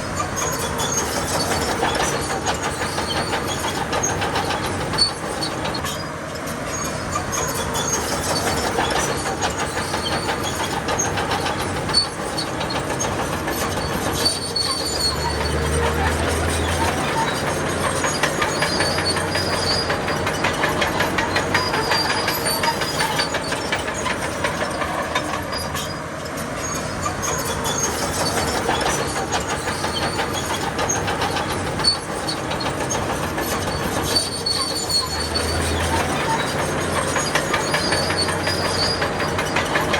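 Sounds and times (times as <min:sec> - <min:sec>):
bulldozer engine under load: 0:00.0 - 0:39.9
steel tracks clattering: 0:00.0 - 0:39.9.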